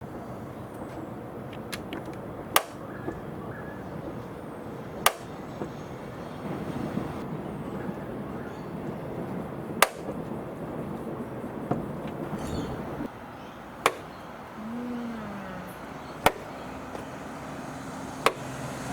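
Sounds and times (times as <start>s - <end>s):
steady background hum: 0.0s - 18.9s.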